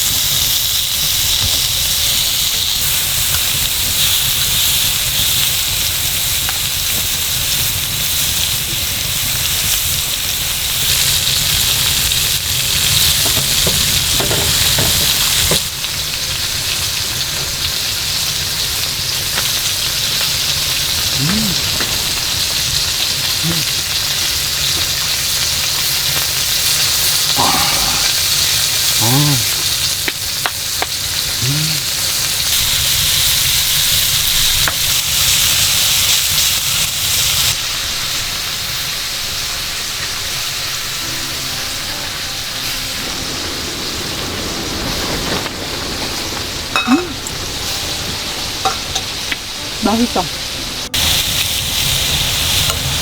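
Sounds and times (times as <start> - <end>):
ribs sizzling on a grill: 0.0 - 53.0.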